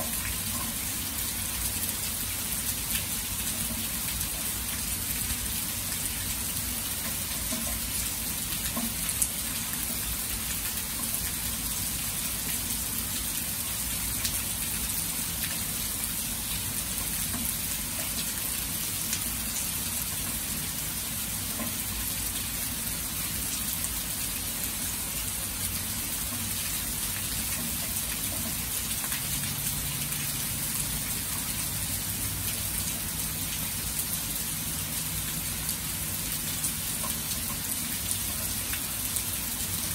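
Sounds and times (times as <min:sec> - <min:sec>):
heavy rain on water and grass: 0:00.0 - 0:39.9.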